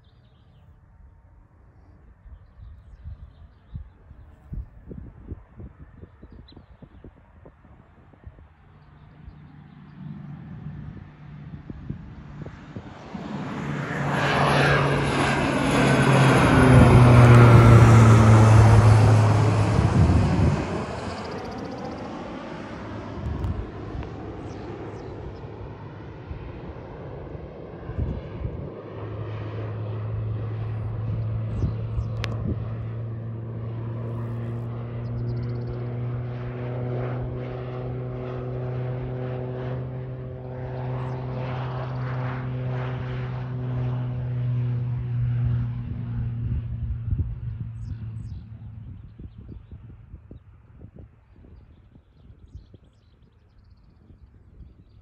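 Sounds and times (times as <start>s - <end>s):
airplane engine flying low overhead: 0.0s - 55.0s
whoosh of plane passing: 1.5s - 55.0s.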